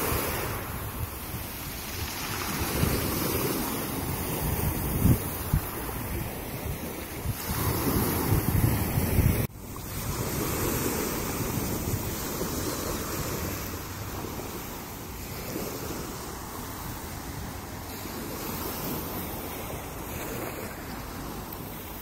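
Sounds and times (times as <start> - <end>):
waves breaking on pebble beach: 0.0 - 22.0
wind noise on microphone: 0.0 - 22.0.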